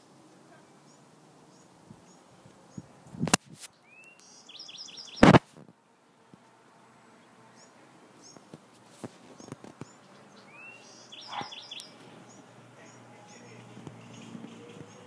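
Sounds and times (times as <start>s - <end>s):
small birds chirping: 0.4s - 5.4s, 7.1s - 15.0s.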